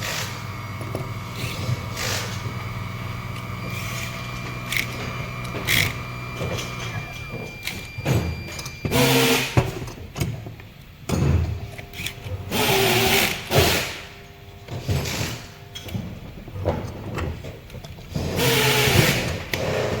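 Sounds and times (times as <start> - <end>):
food waste disposer motor humming: 0.0 - 20.0.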